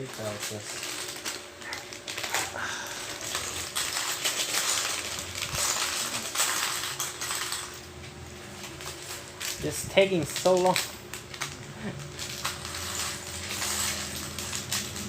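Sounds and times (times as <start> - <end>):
plastic bricks clattering: 0.0 - 7.9, 8.6 - 15.0
plastic packaging crinkling: 0.0 - 15.0.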